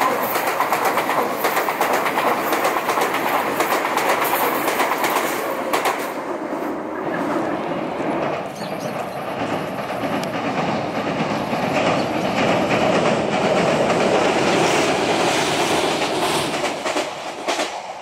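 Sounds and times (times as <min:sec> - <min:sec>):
electric train wheels clattering: 0:00.0 - 0:06.6, 0:07.5 - 0:18.0.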